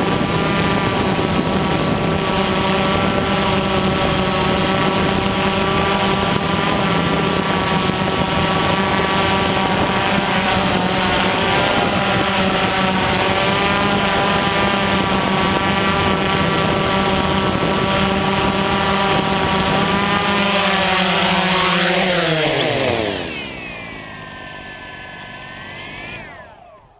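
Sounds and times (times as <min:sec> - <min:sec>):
quadcopter propellers humming: 0:00.0 - 0:26.9.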